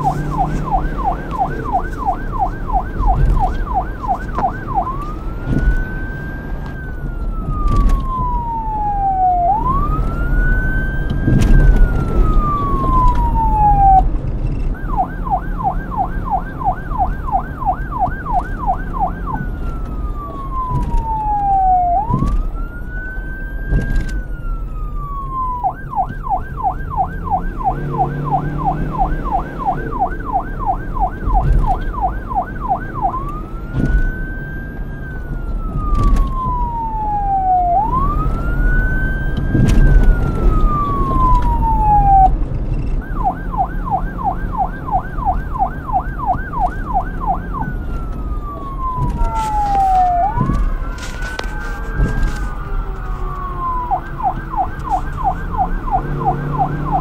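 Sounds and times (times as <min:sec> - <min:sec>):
low wind rumble: 0:00.0 - 0:28.1, 0:33.7 - 0:57.0
police siren wailing and yelping: 0:00.0 - 0:57.0.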